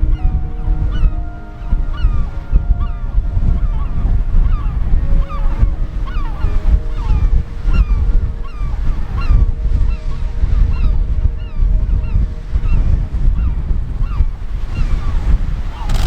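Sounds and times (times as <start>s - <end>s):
wind and surf rushing: 0.0s - 16.0s
seabirds crying: 0.1s - 12.8s, 13.4s - 16.0s.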